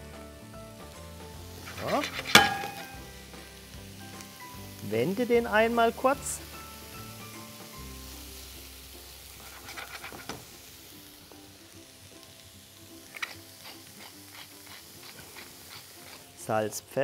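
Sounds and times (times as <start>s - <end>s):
fennel sizzling in frying pan: 0.0s - 17.0s
soft background music: 0.0s - 17.0s.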